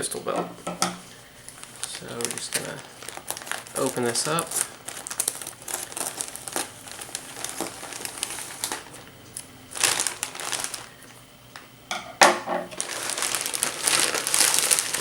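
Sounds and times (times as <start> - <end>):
packaging crinkling and rustling: 1.4 - 11.2, 12.7 - 15.0.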